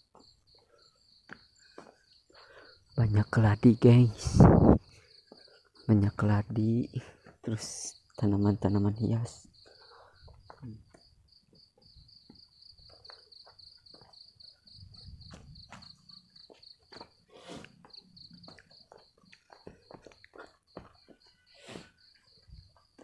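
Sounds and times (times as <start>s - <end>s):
night insect chirping: 0.0s - 23.0s.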